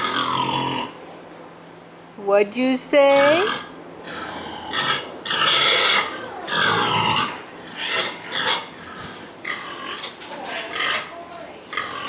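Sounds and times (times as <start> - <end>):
young pigs calling: 0.0 - 1.0, 3.0 - 12.0.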